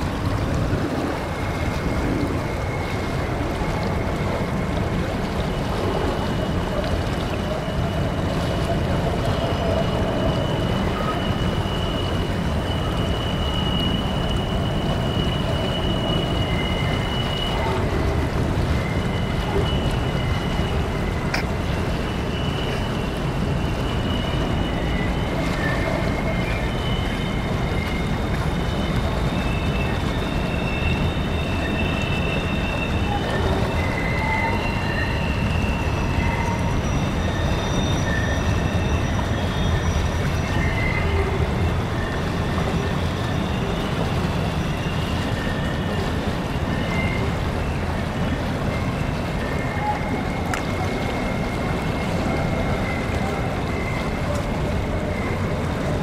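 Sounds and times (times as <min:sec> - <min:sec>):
train wheels squealing: 0:00.0 - 0:56.0.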